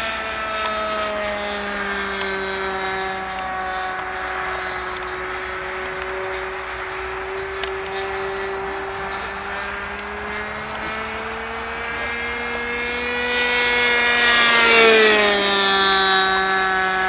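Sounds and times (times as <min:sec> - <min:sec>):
model plane engine in flight: 0:00.0 - 0:17.0.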